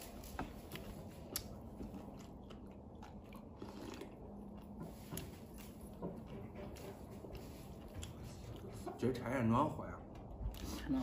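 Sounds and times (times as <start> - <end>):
people chewing and eating: 0.0 - 11.0.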